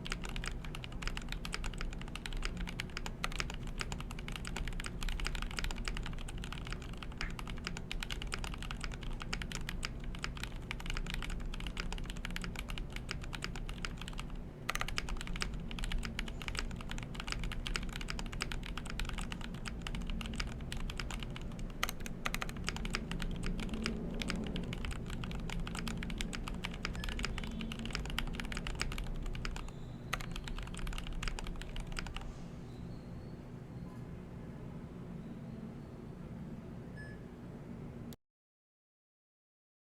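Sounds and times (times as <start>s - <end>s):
fast mechanical keyboard typing: 0.0s - 32.3s.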